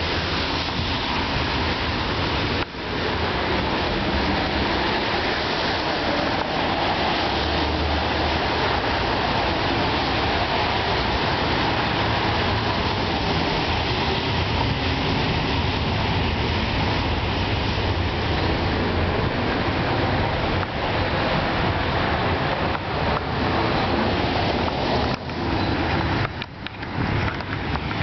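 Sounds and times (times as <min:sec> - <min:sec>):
freight train rumbling: 0:00.0 - 0:28.0.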